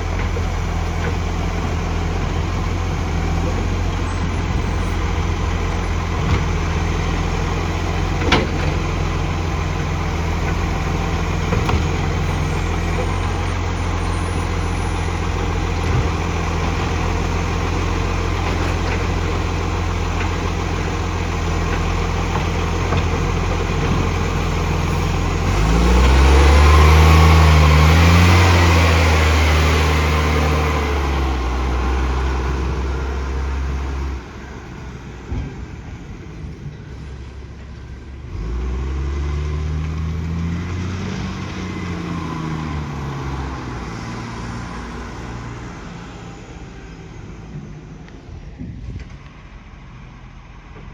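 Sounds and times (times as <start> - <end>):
diesel engine idling and revving: 0.0 - 50.9.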